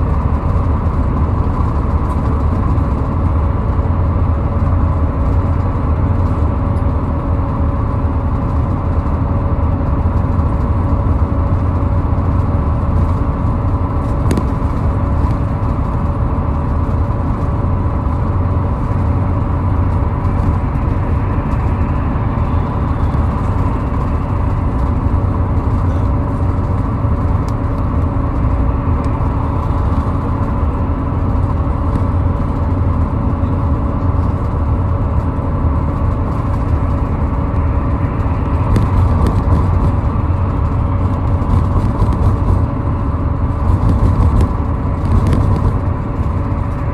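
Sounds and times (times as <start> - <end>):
car driving at highway speed: 0.0 - 46.9.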